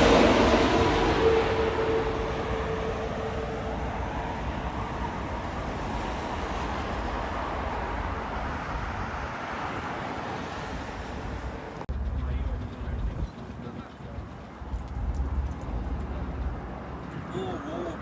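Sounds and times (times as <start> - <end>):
faint jet whine: 0.0 - 18.0
jet engine roar: 0.0 - 18.0.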